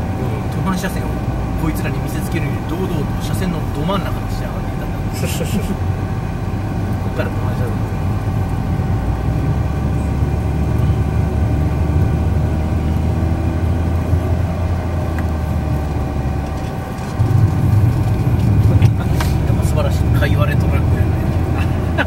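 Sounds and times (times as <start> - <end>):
faint constant whine: 0.0 - 22.0
low rumble of engine and tyres: 0.0 - 22.0.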